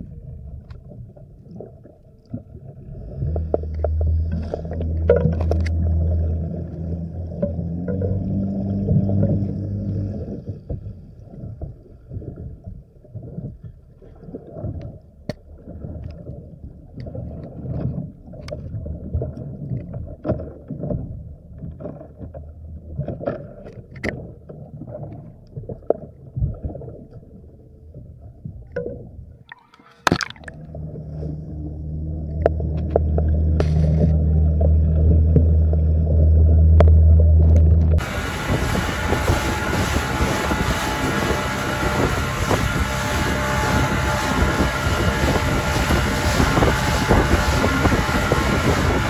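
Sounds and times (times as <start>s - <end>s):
low hum: 0.0s - 20.2s, 20.8s - 49.0s.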